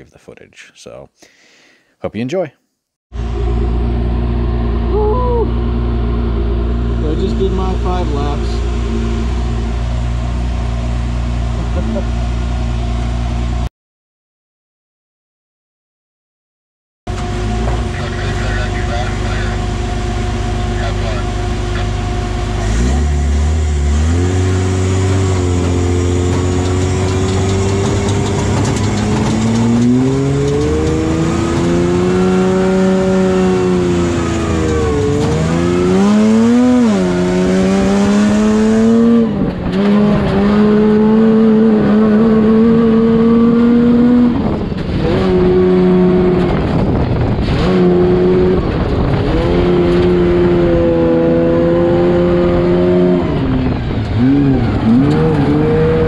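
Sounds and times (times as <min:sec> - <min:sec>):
truck engine revving: 0:03.1 - 0:13.7, 0:17.1 - 0:56.0.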